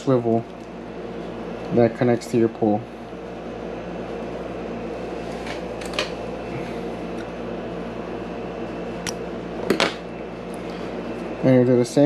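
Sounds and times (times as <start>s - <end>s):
appliance motor hum: 0.0s - 12.0s.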